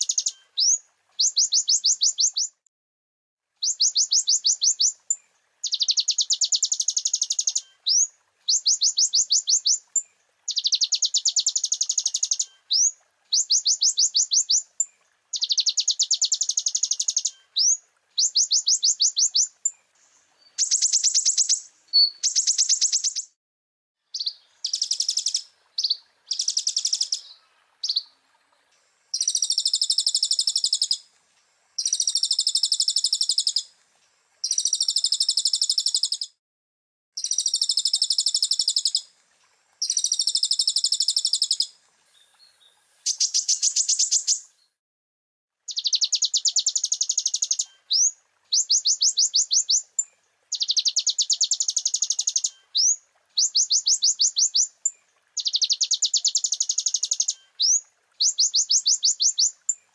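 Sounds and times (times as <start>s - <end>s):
sunbird singing trilled phrases: 0.0s - 2.6s, 3.6s - 23.4s, 24.1s - 28.2s, 29.1s - 31.1s, 31.8s - 33.7s, 34.4s - 36.4s, 37.2s - 39.1s, 39.8s - 44.8s, 45.7s - 59.9s.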